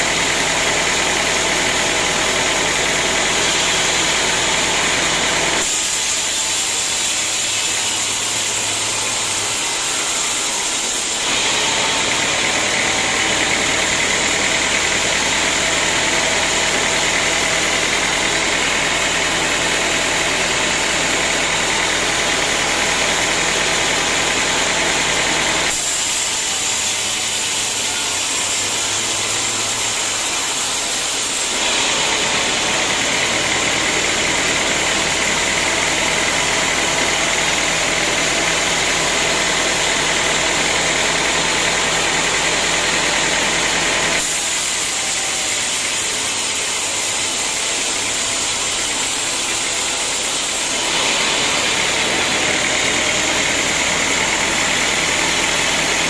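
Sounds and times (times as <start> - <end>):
sawmill motor hum: 0.0 - 56.0
saw blade hissing: 1.5 - 13.8, 14.6 - 56.0.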